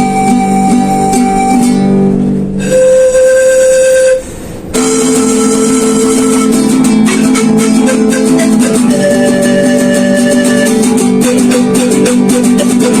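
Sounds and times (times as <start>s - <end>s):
long held melody notes: 0.0s - 13.0s
plucked strings: 0.0s - 13.0s.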